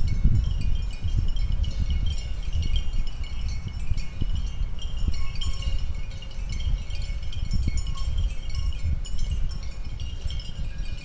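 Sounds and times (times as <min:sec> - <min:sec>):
high tinkling chimes: 0:00.0 - 0:11.0
wind rumbling on microphone: 0:00.0 - 0:11.0.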